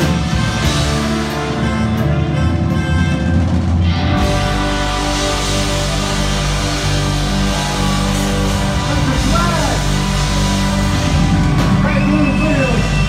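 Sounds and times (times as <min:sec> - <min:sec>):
drums: 0:00.0 - 0:13.0
electric guitars: 0:00.0 - 0:13.0
horn section with saxophone: 0:00.0 - 0:13.0.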